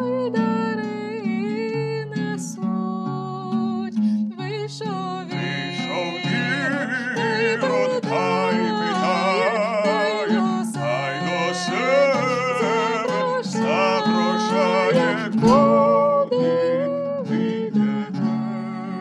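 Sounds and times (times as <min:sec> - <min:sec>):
plucked lute: 0:00.0 - 0:19.0
woman singing folk song: 0:00.0 - 0:19.0.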